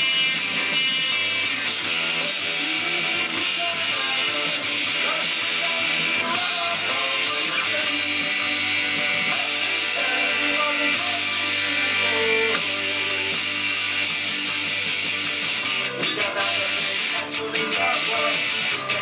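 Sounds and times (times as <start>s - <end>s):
electric guitar strumming chords: 0.0s - 19.0s.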